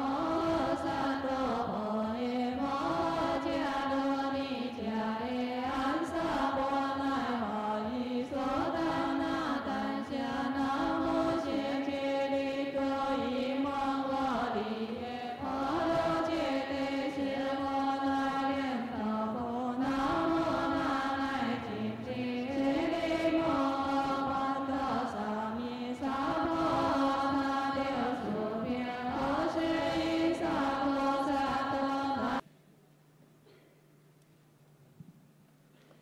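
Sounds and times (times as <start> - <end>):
voices chanting: 0.0 - 32.4.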